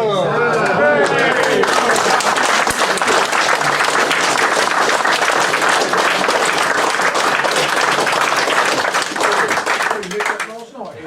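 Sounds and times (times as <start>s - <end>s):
people applauding: 0.8s - 11.0s.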